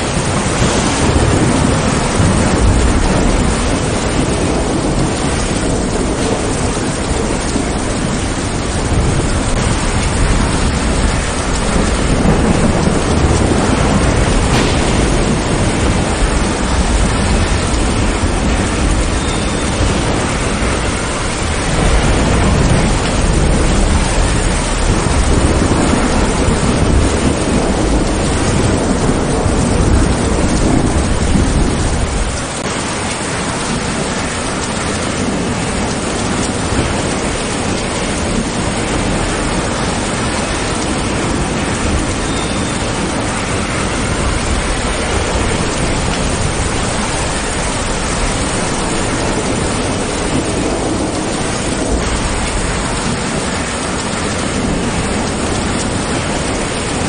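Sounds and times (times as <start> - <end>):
heavy rain: 0.0 - 57.0
thunder rumbling: 0.0 - 57.0.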